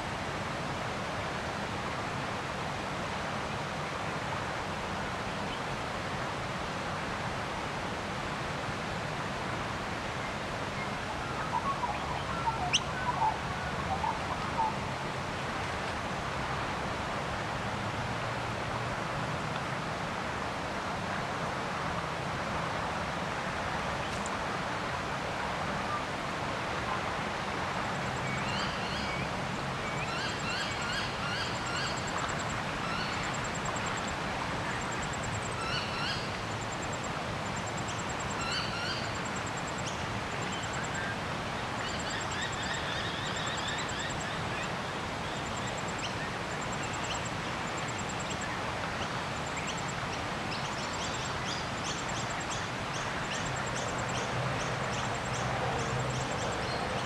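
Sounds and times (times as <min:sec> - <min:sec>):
outdoor background hiss: 0:00.0 - 0:57.0.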